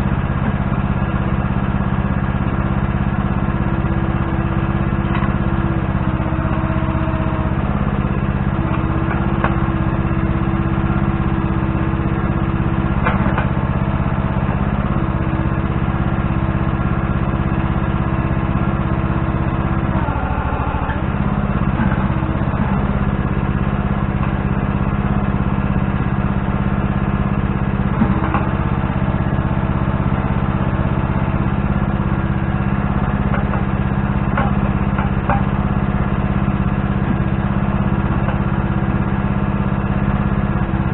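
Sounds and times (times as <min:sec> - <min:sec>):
digging machine engine running: 0:00.0 - 0:40.9.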